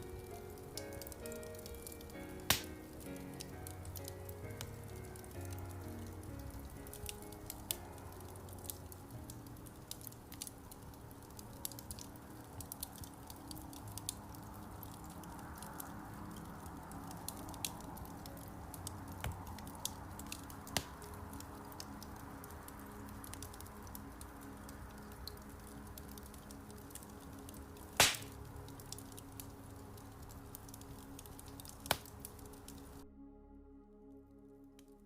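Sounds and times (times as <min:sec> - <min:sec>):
wood fire crackling: 0:00.0 - 0:33.0
faint soft music: 0:00.0 - 0:35.0.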